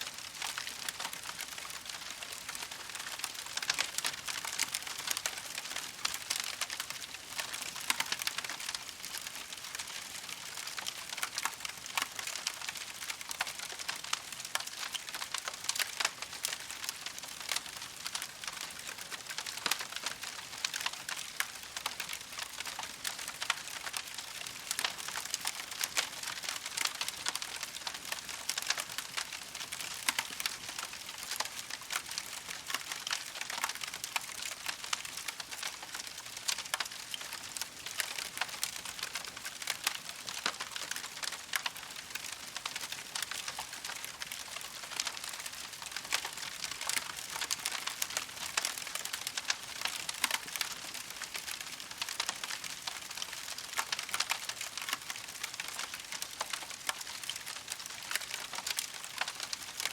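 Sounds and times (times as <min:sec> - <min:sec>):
campfire crackling: 0:00.2 - 0:59.9.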